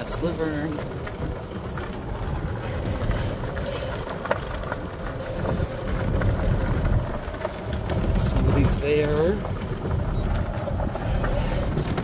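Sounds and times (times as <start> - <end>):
golf cart rumbling: 0.0 - 12.0
wind on microphone: 1.2 - 12.0.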